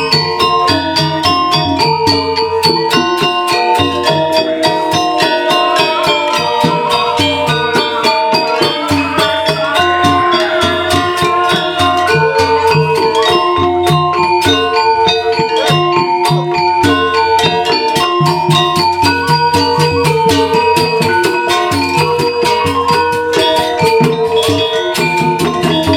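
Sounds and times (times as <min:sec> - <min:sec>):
fast percussive strikes: 0:00.0 - 0:25.9
metallophones ringing: 0:00.0 - 0:25.9.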